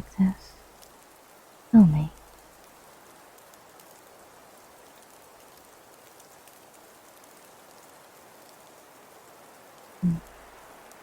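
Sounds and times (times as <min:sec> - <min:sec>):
rain patter: 0:00.0 - 0:11.0.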